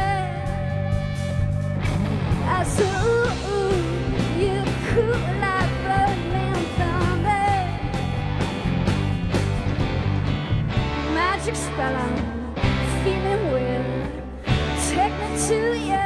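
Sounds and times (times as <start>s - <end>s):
bass: 0.0s - 16.0s
bending lead guitar melody: 0.0s - 16.0s
drums: 0.0s - 16.0s.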